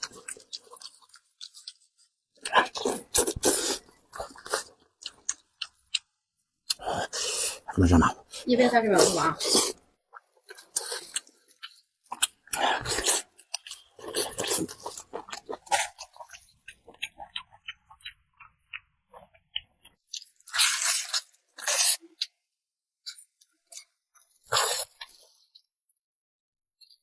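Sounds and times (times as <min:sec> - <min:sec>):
person chewing and biting: 0:00.0 - 0:07.6, 0:09.4 - 0:22.4, 0:23.0 - 0:25.7.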